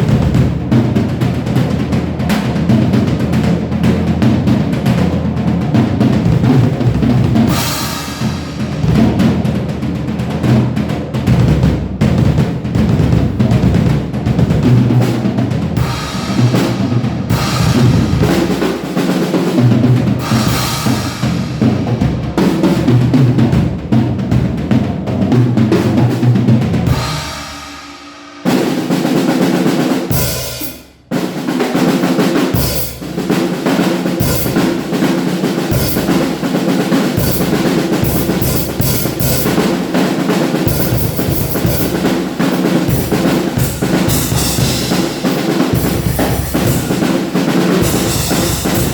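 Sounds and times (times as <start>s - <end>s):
drum kit playing groove: 0.0s - 48.9s.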